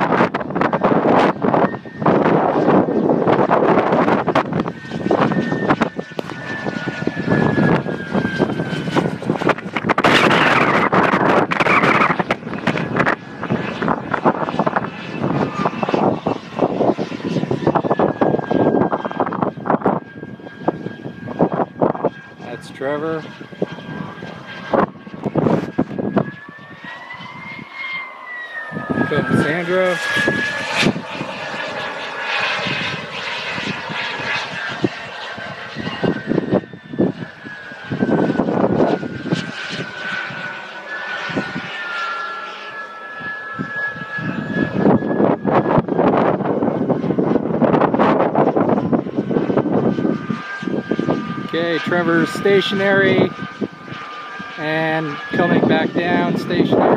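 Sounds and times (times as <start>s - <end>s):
gusty rushing noise: 0.0s - 27.7s, 28.6s - 40.5s, 43.6s - 56.9s
model jet motor whine: 0.0s - 56.9s.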